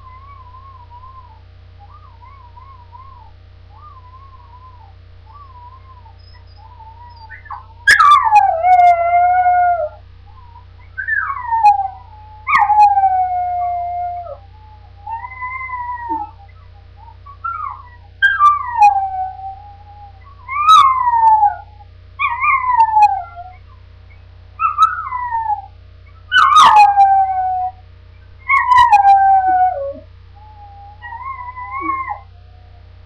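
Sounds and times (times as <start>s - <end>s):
dog whining: 0.1s - 23.7s, 24.6s - 27.8s, 28.4s - 32.9s.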